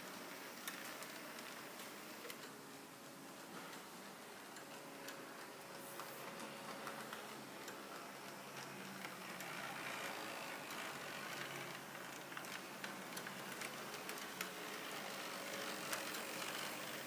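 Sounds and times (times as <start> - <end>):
model trams running on track: 0.0 - 17.0.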